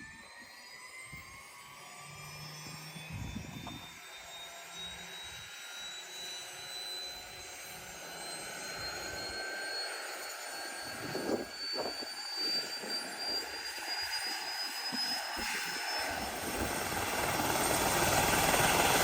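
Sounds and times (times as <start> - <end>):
helicopter turbine whine rising: 0.0 - 19.0.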